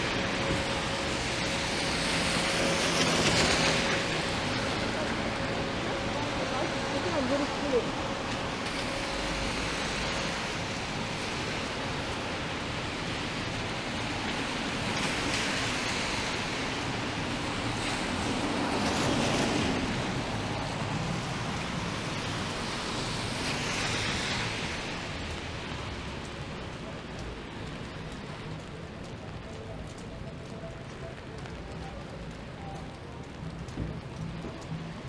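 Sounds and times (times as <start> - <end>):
tyres swishing on wet road: 0.0 - 35.0
wet city traffic: 0.0 - 35.0.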